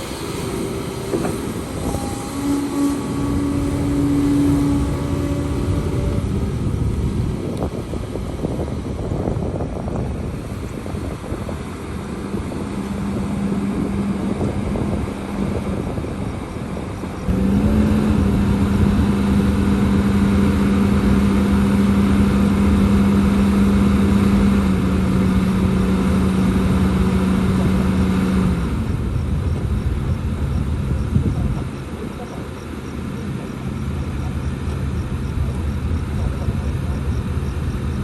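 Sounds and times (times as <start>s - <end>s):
heavy machinery diesel engine: 0.0s - 38.0s.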